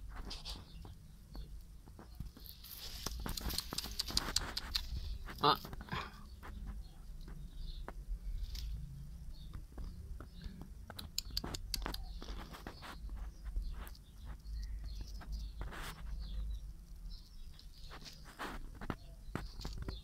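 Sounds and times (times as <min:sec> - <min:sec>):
light clicks and rustles: 0:00.1 - 0:08.8, 0:09.4 - 0:20.0.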